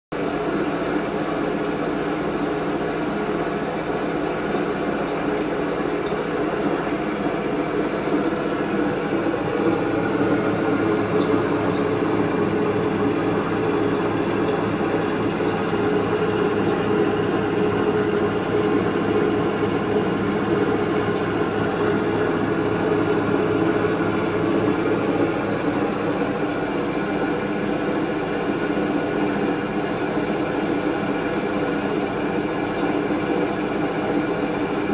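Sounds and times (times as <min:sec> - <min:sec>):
washing machine spinning drone: 0:00.1 - 0:34.9.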